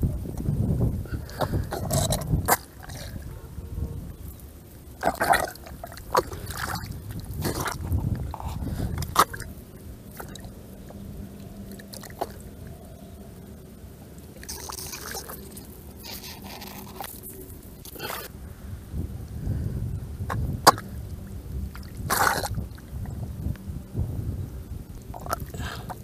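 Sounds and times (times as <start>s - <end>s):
mud squelching and water splashing: 1.0s - 18.4s, 20.2s - 23.6s, 25.0s - 26.0s.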